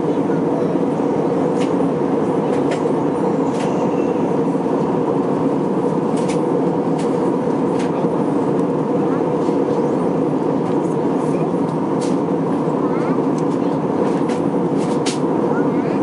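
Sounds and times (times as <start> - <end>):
airliner cabin engine roar: 0.0 - 16.0.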